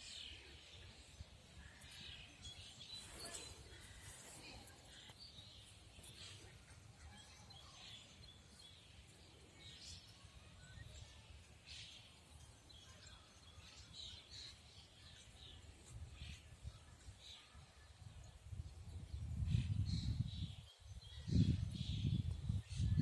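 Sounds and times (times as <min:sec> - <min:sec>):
songbird chirps and calls: 0:00.0 - 0:23.0.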